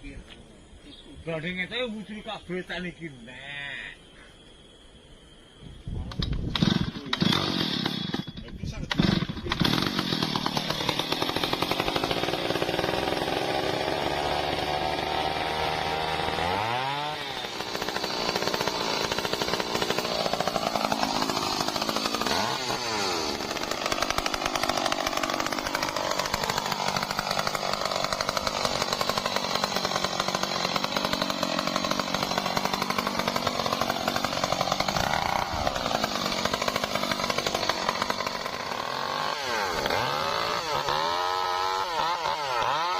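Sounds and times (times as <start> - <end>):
chainsaw cutting wood: 6.5 - 42.9.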